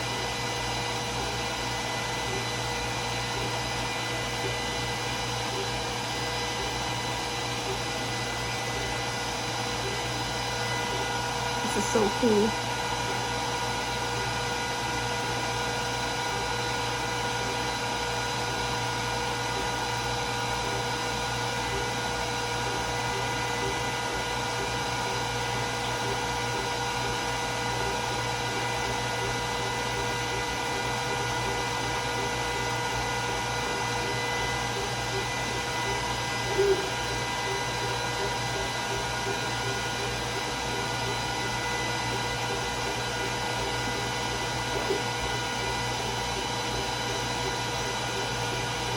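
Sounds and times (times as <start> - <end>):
laser cutter fans whirring: 0.0 - 48.9.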